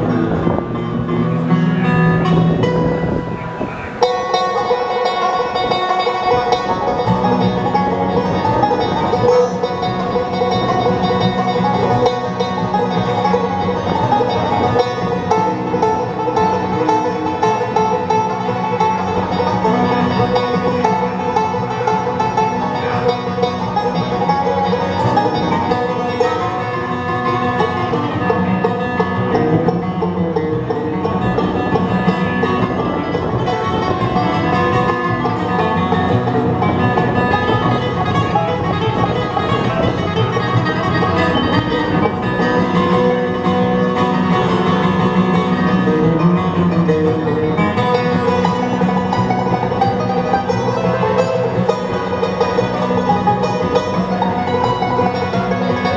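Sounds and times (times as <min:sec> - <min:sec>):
banjo picking: 0:00.0 - 0:55.9
bluegrass band playing: 0:00.0 - 0:55.9
guitar picking: 0:00.0 - 0:55.9.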